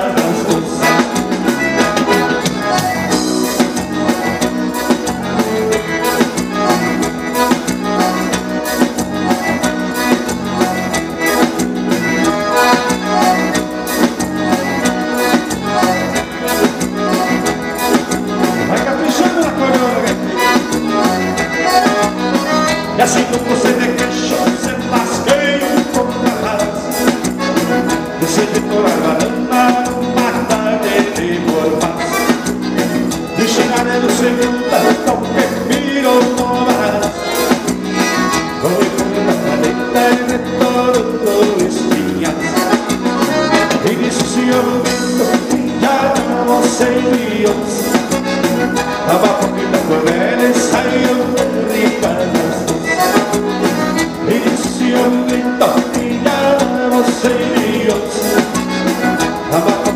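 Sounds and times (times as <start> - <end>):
accordion melody: 0.0 - 59.9
keyboard: 0.0 - 59.9.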